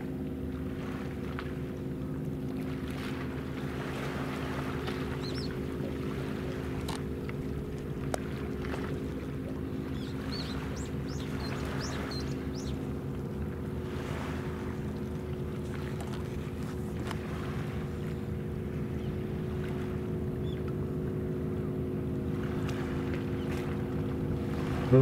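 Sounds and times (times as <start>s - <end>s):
ship machinery droning: 3.4s - 25.0s.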